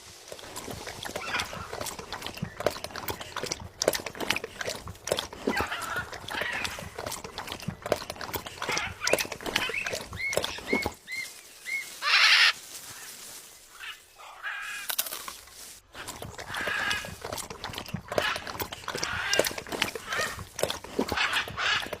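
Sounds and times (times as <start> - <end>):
birds chirping and calling: 0.4 - 14.9, 16.0 - 22.0.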